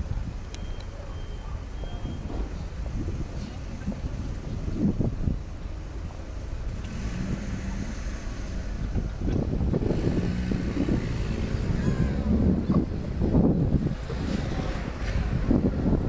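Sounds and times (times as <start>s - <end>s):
low rumble of traffic: 0.0s - 16.0s
wind buffeting microphone: 1.5s - 16.0s.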